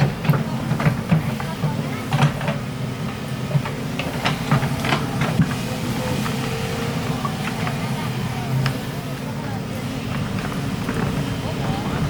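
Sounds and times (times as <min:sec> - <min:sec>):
excavator engine under load: 0:00.0 - 0:12.0.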